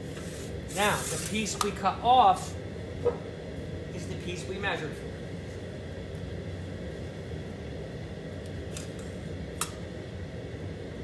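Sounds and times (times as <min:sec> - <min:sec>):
workshop hum: 0:00.0 - 0:11.0.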